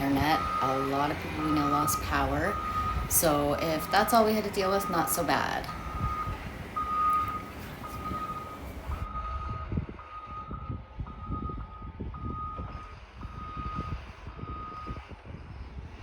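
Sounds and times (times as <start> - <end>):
reversing alarm beeping: 0.0 - 15.0
truck engine rumbling: 0.0 - 16.0.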